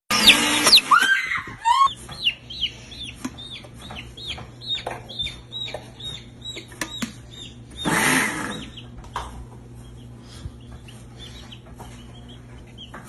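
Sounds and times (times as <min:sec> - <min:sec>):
baby chick peeping: 0:00.1 - 0:13.0.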